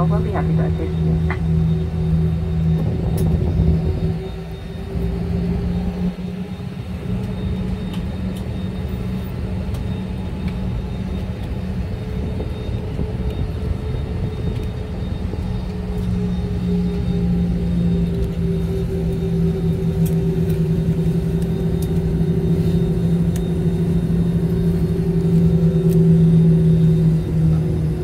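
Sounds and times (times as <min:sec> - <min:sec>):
airplane cabin hum and rumble: 0:00.0 - 0:28.0.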